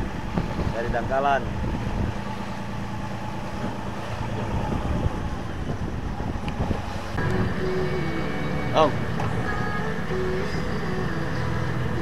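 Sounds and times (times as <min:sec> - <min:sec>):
wind buffeting microphone: 0:00.0 - 0:10.1
boat engine running: 0:00.0 - 0:12.0.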